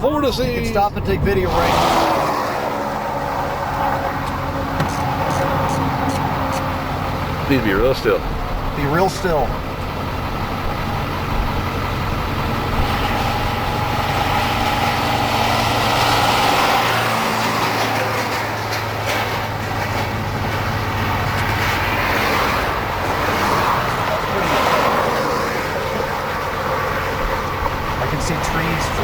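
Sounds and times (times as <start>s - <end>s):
vehicle engine humming: 0.0s - 29.0s
continuous rushing noise: 3.8s - 29.0s.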